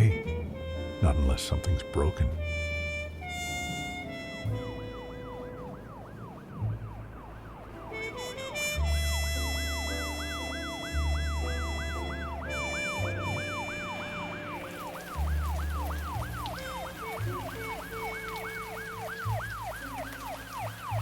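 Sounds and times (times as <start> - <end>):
film score with low bass: 0.0 - 18.6
siren yelping: 3.4 - 21.0.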